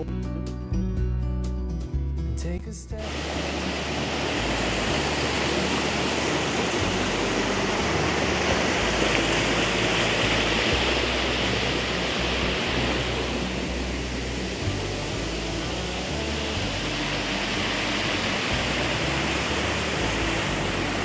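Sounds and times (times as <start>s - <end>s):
stream rushing over rocks: 3.0s - 21.0s.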